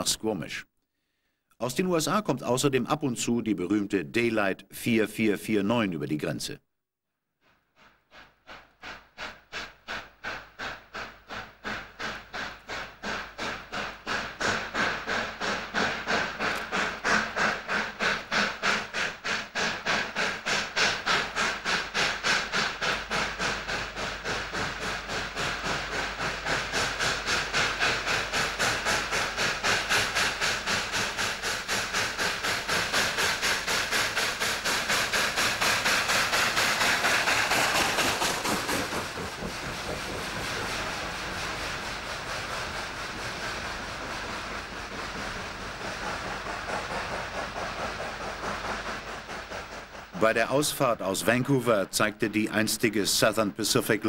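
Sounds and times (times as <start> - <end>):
steam hissing: 7.4 - 54.0
steam locomotive exhaust beats: 7.4 - 54.0.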